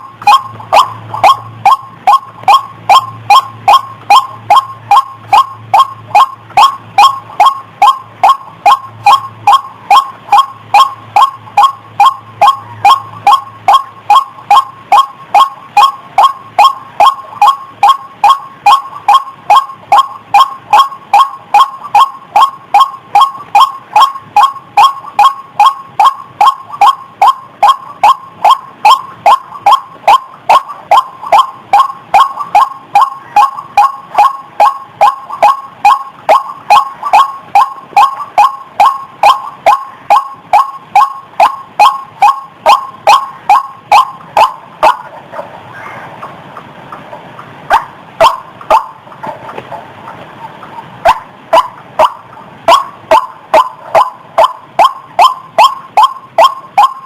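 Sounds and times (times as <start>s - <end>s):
faint low hum: 0.0s - 57.0s
waterhen calling: 0.0s - 57.0s.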